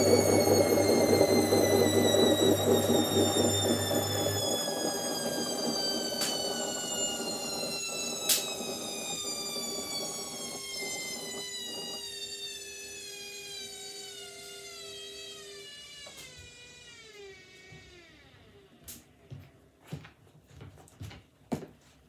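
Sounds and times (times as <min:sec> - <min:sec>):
washing machine motor whine: 0:00.0 - 0:18.9.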